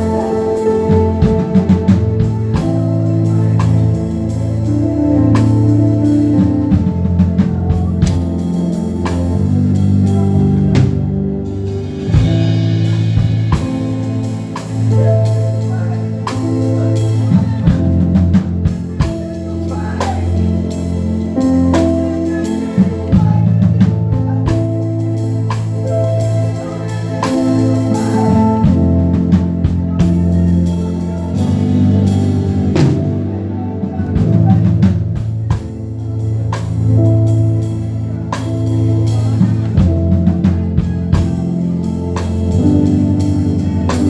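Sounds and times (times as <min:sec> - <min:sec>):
drum kit beat: 0:00.0 - 0:44.0
guitar low notes: 0:00.0 - 0:44.0.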